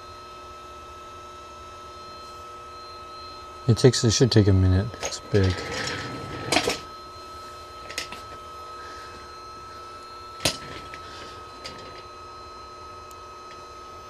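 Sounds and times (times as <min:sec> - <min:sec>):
printer high whine: 0:00.1 - 0:14.0.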